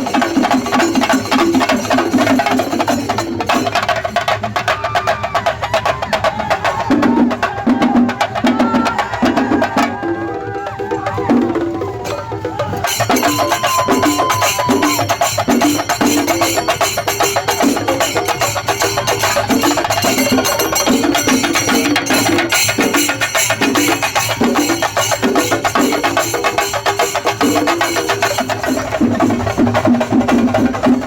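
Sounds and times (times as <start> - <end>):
percussion ensemble drumming: 0.0 - 31.0.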